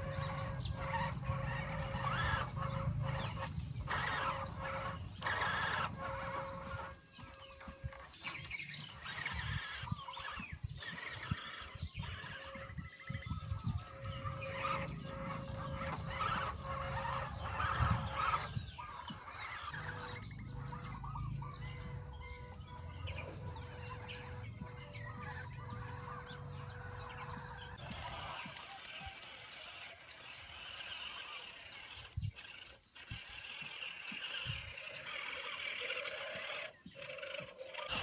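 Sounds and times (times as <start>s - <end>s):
bird chirps and calls: 0.0s - 38.0s.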